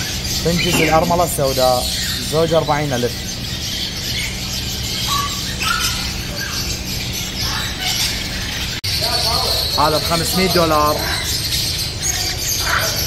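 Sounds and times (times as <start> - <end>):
small birds chirping and squeaking: 0.0 - 13.0.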